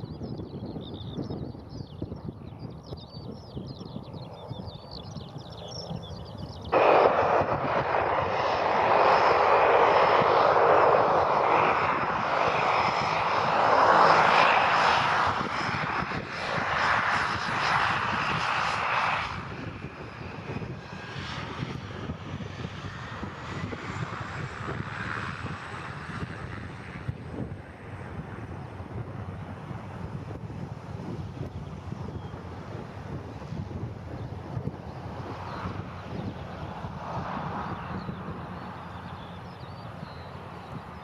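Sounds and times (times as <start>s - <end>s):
propeller aircraft engine: 0.0s - 41.0s.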